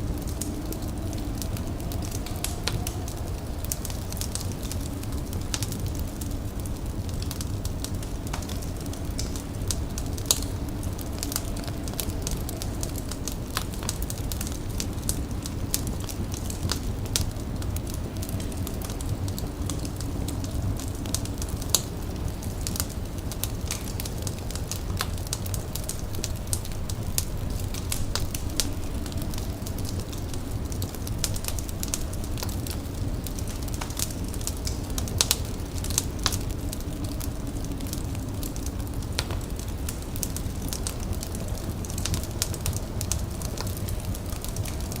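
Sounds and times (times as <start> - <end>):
fire crackling and popping: 0.0 - 45.0.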